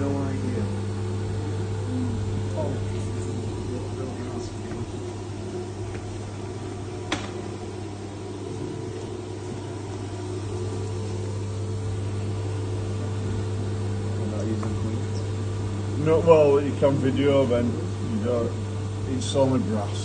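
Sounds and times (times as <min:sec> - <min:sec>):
cnc machine humming: 0:00.0 - 0:20.0.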